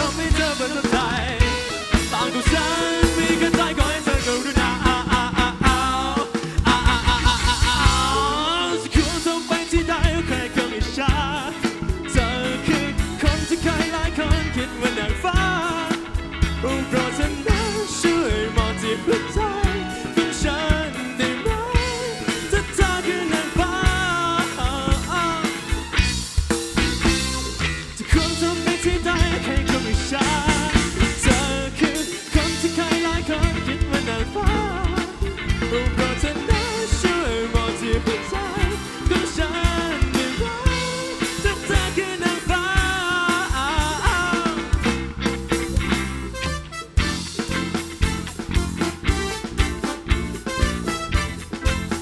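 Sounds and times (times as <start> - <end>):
man singing into a microphone: 0.0 - 25.8, 27.9 - 44.9
electric guitars: 0.0 - 52.0
steady drum beat: 0.0 - 52.0.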